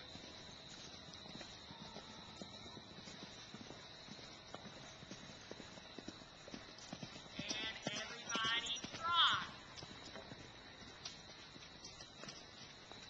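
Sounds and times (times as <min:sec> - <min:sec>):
hooves thudding on dirt: 0:00.0 - 0:13.0.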